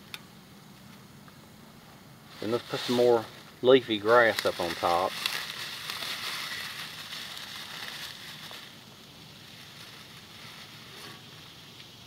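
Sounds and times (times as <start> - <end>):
dry grass rustling and crackling: 2.3 - 12.0.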